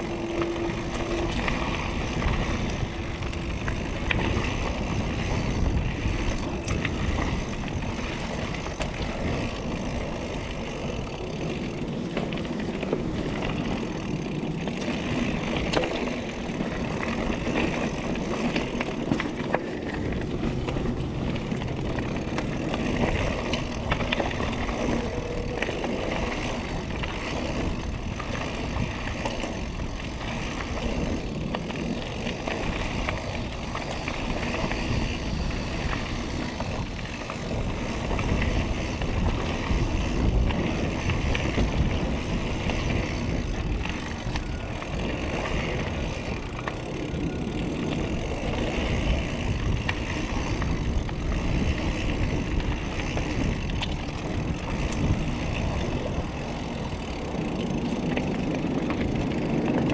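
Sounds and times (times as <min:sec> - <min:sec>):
bike rattling over bumps: 0:00.0 - 0:59.9
tyres rolling on dirt and gravel: 0:00.0 - 0:59.9.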